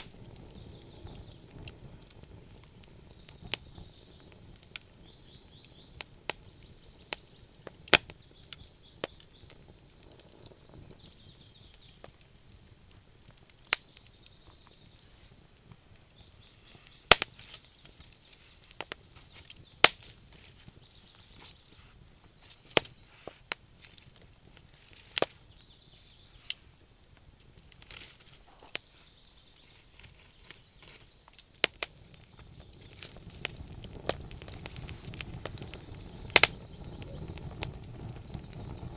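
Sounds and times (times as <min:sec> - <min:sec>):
low steady hiss: 0:00.0 - 0:38.9
wood fire crackling: 0:00.0 - 0:38.9.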